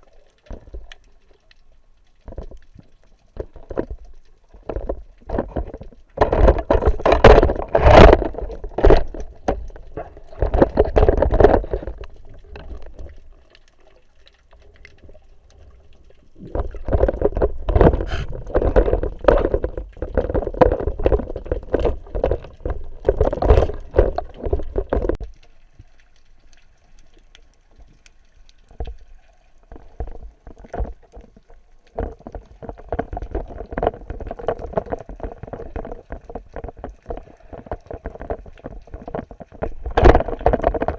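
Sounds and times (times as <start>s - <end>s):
muffled water churning: 0.0s - 40.9s
water bubbling: 0.0s - 40.9s.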